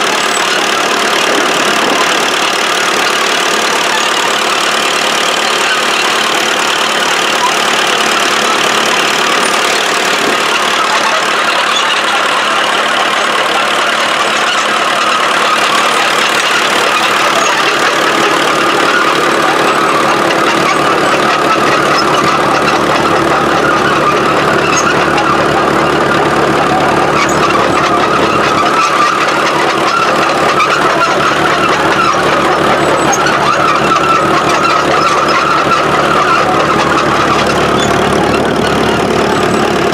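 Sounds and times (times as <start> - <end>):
crawler diesel engine running: 0.0 - 39.9.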